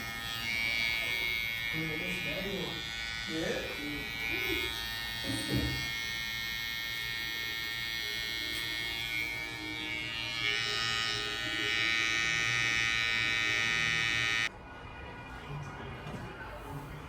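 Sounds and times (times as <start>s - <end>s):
hair clipper motor buzzing: 0.0s - 14.5s.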